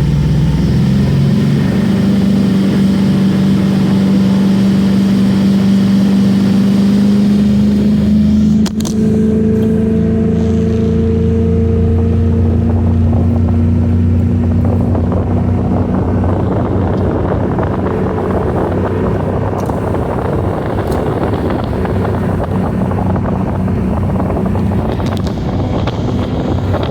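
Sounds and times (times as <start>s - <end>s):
rushing water: 0.0s - 26.9s
watercraft engine humming: 0.0s - 26.9s
wind buffeting microphone: 0.0s - 26.9s.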